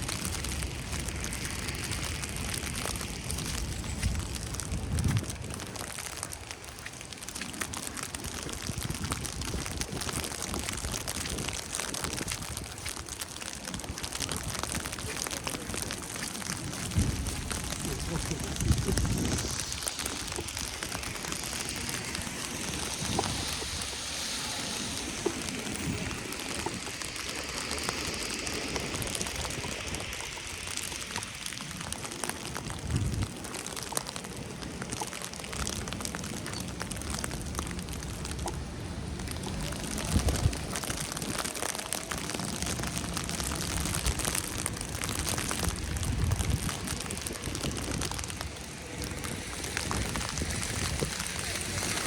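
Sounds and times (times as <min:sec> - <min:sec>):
precipitation pattering on ground: 0:00.0 - 0:52.0.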